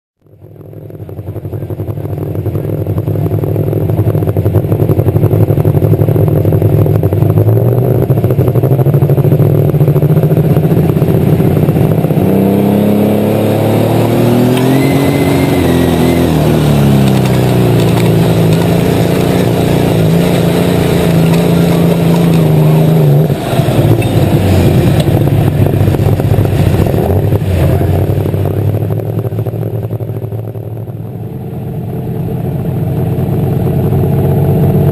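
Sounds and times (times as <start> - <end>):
pulling tractor engine running hard: 0.2 - 34.9.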